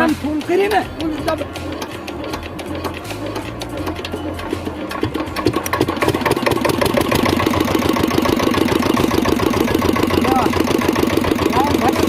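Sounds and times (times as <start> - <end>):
pump engine running: 0.0 - 12.0.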